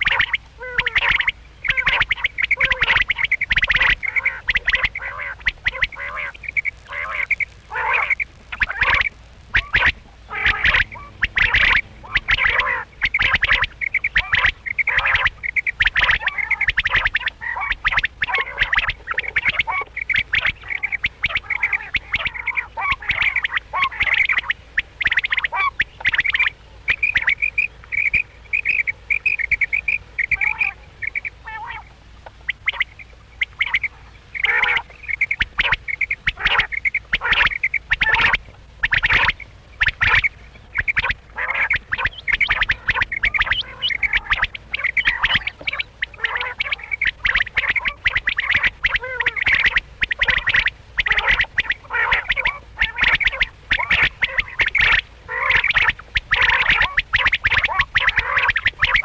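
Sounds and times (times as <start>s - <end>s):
quails calling: 0.0s - 59.0s.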